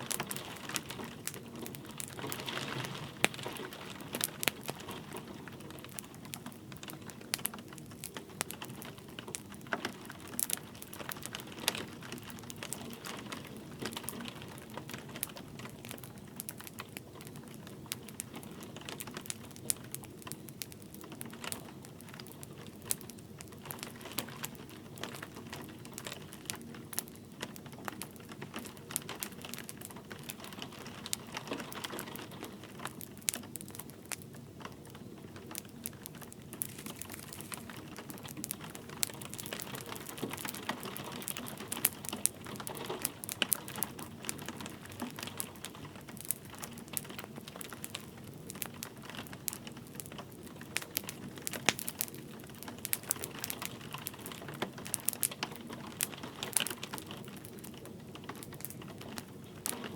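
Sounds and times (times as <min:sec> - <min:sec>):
light rain hiss: 0:00.0 - 0:59.9
wood fire crackling and popping: 0:00.0 - 0:59.9.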